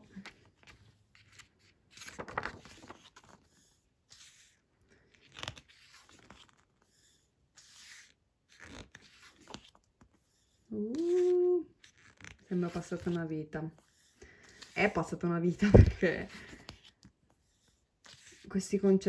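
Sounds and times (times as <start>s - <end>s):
book pages turning: 0.0s - 19.0s.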